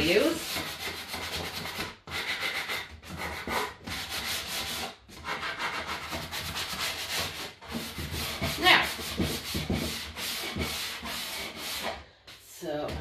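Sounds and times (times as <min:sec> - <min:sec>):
sanding block scrubbing wood: 0:00.0 - 0:11.9.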